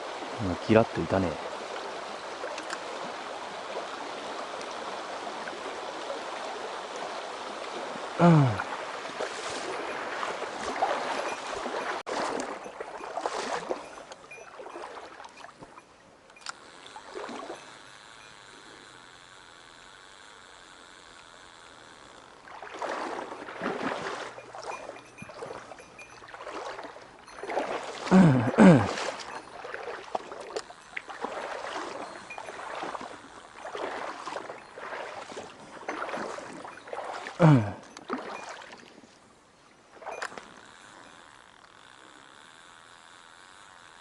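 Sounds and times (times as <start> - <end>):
water sloshing and splashing: 0.0 - 44.0.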